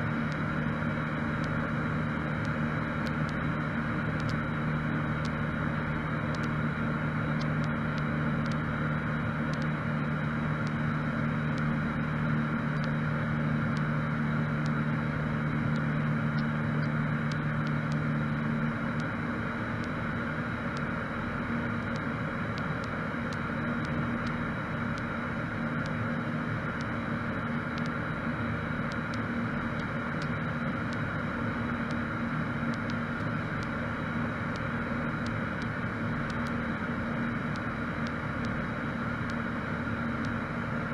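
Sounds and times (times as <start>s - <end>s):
light aircraft engine drone: 0.0s - 40.9s
low steady hum: 0.0s - 40.9s.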